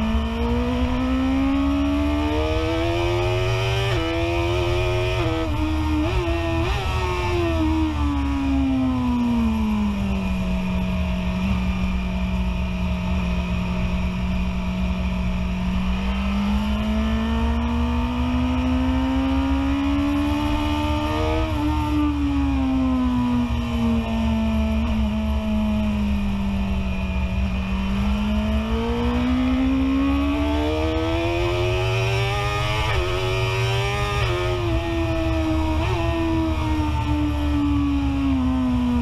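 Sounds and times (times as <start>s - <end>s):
motorcycle engine at speed: 0.0s - 39.0s.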